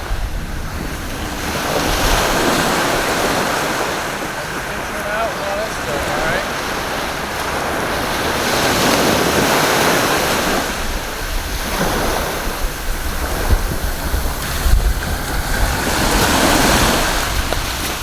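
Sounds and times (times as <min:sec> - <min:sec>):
ocean waves breaking on beach: 0:00.0 - 0:18.0
wind buffeting microphone: 0:00.0 - 0:18.0.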